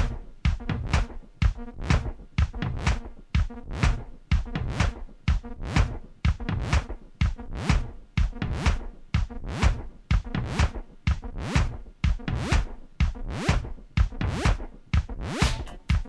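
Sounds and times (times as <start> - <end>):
background music with steady beat: 0.0 - 16.0.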